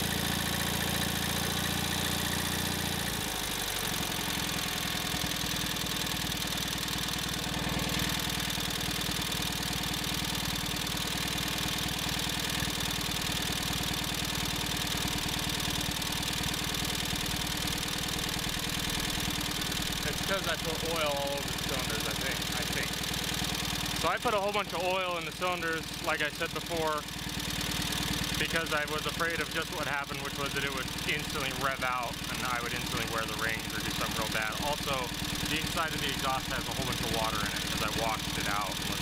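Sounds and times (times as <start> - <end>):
garden tractor engine running: 0.0 - 39.0.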